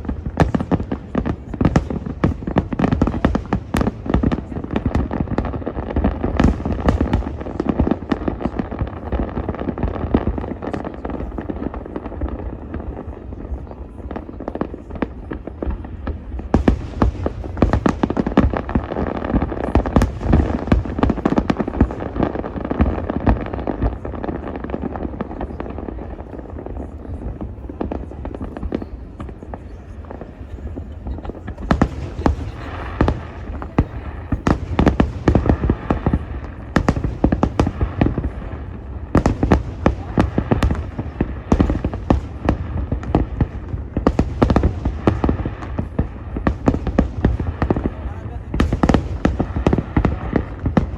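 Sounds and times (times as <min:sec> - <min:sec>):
firework shell bursts and crackles: 0:00.0 - 0:50.9.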